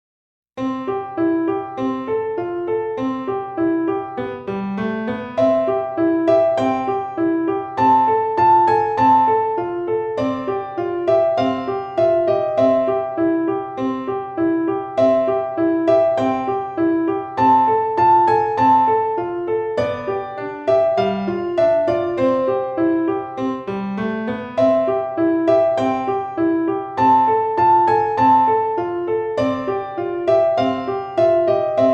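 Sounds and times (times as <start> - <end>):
gentle piano tune: 0.6 - 31.9.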